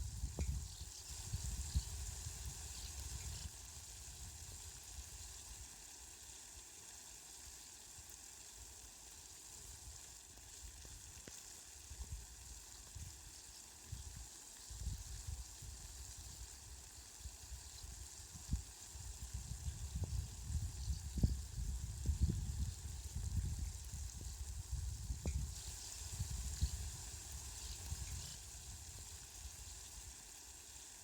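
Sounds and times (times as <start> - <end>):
light rain hissing: 0.0 - 31.0.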